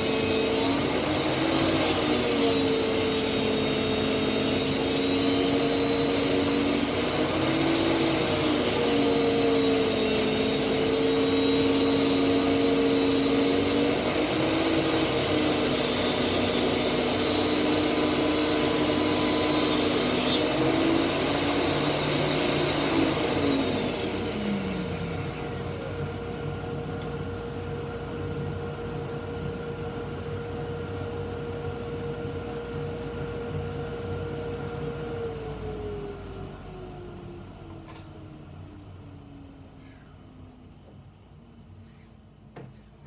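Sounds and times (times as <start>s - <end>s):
planer motor running: 0.0s - 40.0s.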